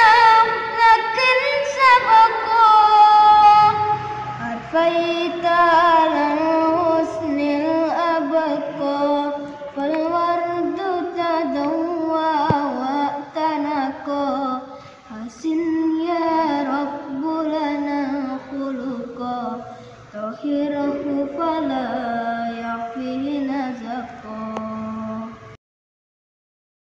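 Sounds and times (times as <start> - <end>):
boy singing unaccompanied: 0.0 - 25.6.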